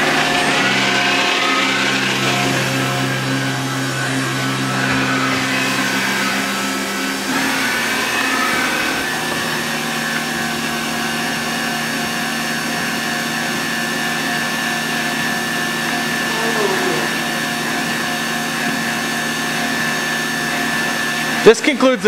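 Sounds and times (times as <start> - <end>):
machine hum and whine: 0.0 - 22.0.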